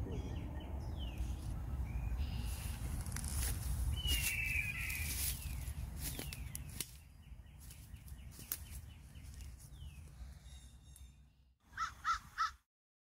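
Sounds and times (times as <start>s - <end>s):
birds calling: 0.0s - 12.6s.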